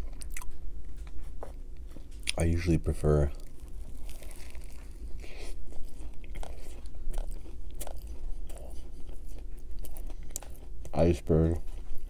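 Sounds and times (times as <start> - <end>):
crunchy chewing of a burger: 0.0 - 12.0.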